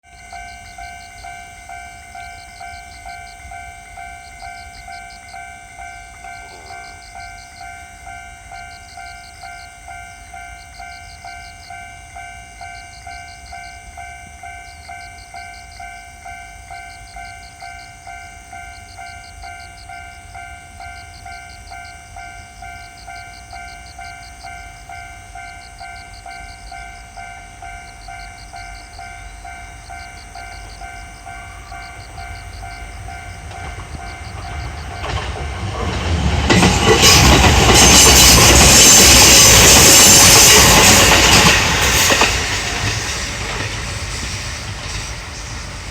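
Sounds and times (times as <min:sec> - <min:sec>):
railroad crossing bell ringing: 0:00.0 - 0:45.9.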